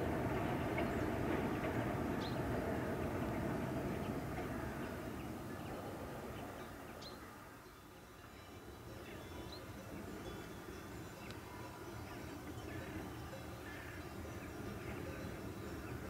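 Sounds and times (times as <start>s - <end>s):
distant freight train rumble: 0.0s - 16.0s.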